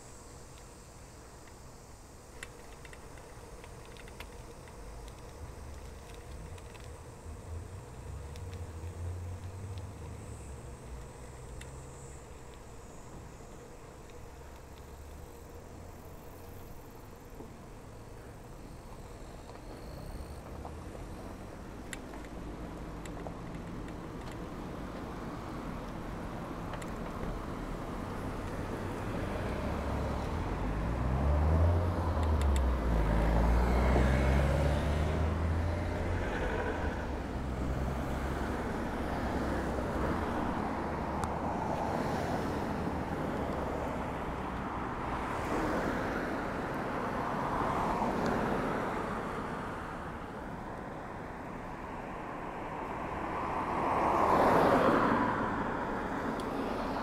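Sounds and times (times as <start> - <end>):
cars passing: 3.0 - 57.0
vehicle engine droning: 3.0 - 57.0.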